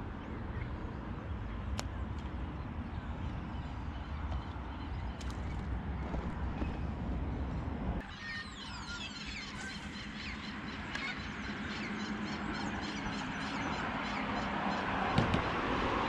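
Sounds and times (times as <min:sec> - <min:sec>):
birds chirping: 0:00.0 - 0:16.0
low traffic rumble: 0:00.0 - 0:16.0.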